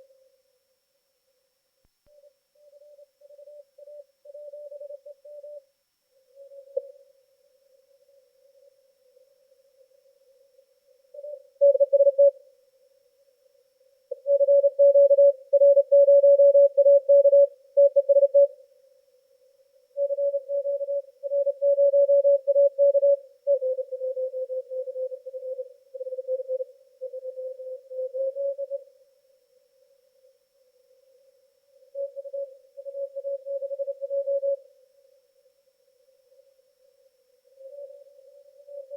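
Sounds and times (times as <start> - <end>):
faint radio hiss: 0.0 - 21.7, 23.1 - 38.9.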